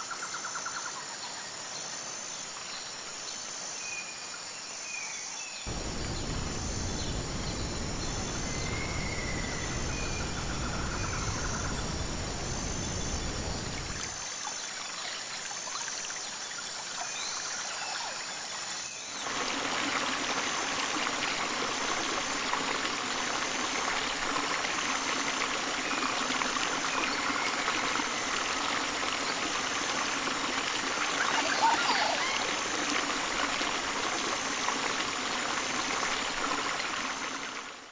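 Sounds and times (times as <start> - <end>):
stream rushing and trickling: 1.4 - 37.9.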